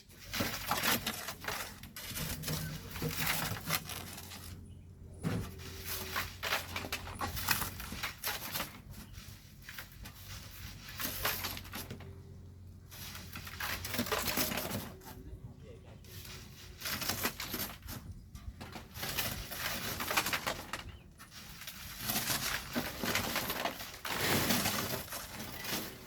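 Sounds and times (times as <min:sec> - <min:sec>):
shovels scraping into gravel: 0:00.0 - 0:04.6, 0:05.3 - 0:12.1, 0:12.8 - 0:15.2, 0:16.0 - 0:18.1, 0:18.7 - 0:26.0.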